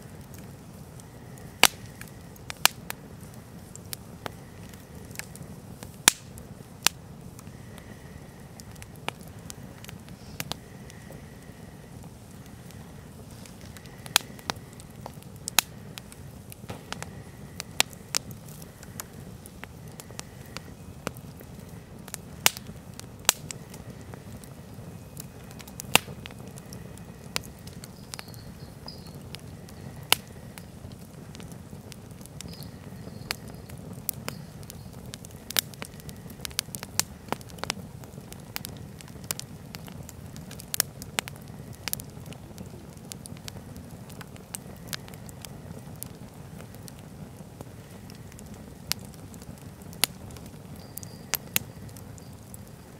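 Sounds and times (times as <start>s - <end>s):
campfire crackling and popping: 0.0s - 52.9s
low steady background: 0.0s - 52.9s.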